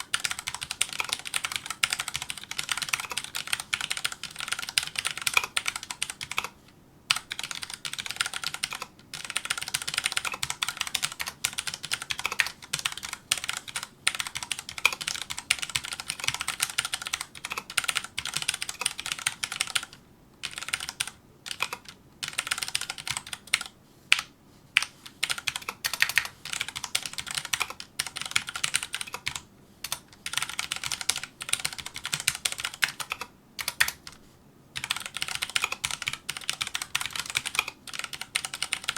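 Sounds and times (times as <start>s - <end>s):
mechanical keyboard typing: 0.0s - 34.2s, 34.8s - 38.9s.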